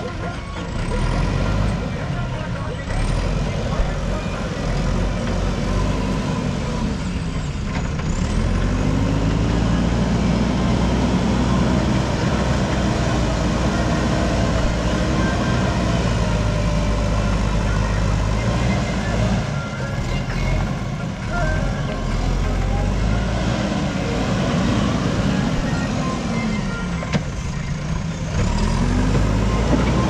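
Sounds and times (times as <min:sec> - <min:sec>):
diesel engine revving under load: 0:00.0 - 0:30.0.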